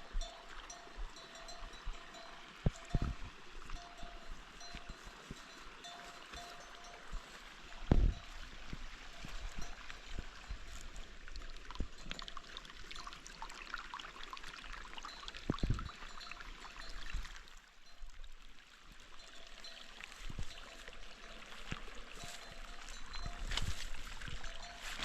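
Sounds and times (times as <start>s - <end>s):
water running and splashing: 0.2s - 25.0s.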